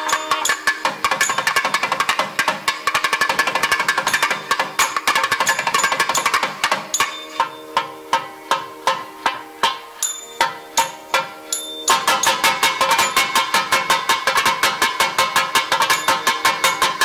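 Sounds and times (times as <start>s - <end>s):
fast drum strokes: 0.0s - 9.8s, 10.4s - 17.0s
held melodic tones: 0.0s - 17.0s.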